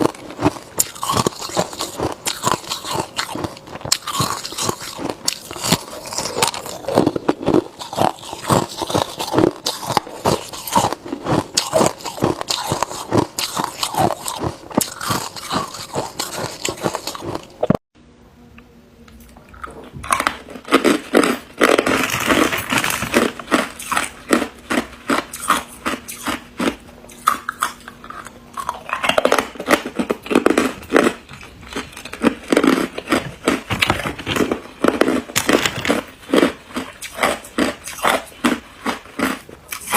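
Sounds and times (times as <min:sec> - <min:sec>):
person crunching ice: 0:00.0 - 0:17.8, 0:20.1 - 0:39.9.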